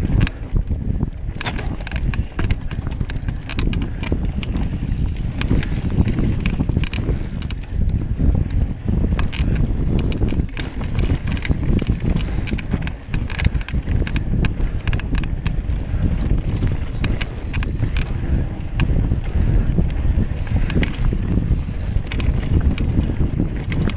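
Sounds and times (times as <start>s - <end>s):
bike clicks and rattles: 0.0s - 23.9s
bike tyre rumble: 0.0s - 23.9s
wind buffeting microphone: 0.0s - 23.9s.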